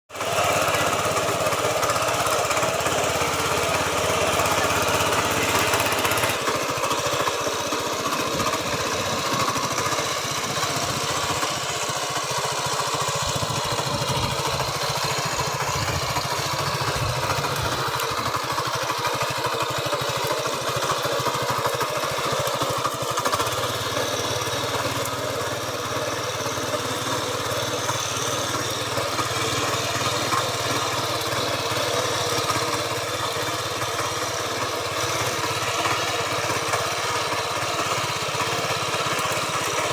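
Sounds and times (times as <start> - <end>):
tractor engine running: 0.1 - 39.9.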